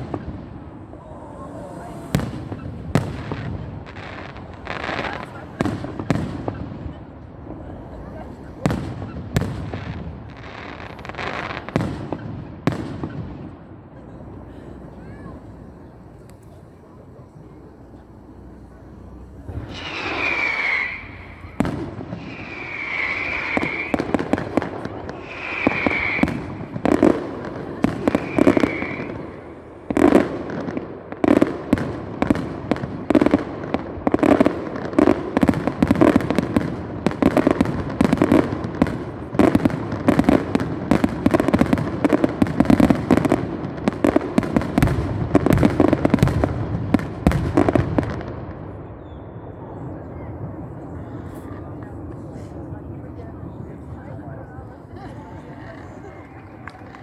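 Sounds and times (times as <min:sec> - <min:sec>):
whistling firework shells: 0:00.0 - 0:33.4, 0:34.2 - 0:57.0
fireworks bangs and crackles: 0:00.0 - 0:57.0.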